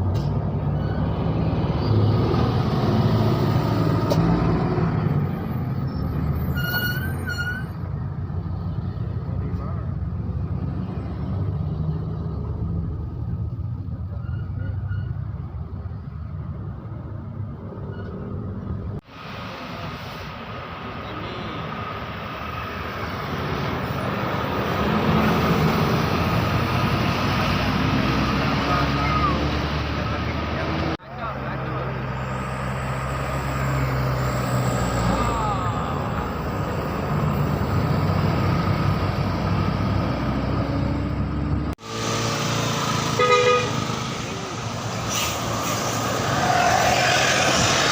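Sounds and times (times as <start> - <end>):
bus engine humming: 0.0 - 47.9
road vehicles rumbling: 0.0 - 47.9.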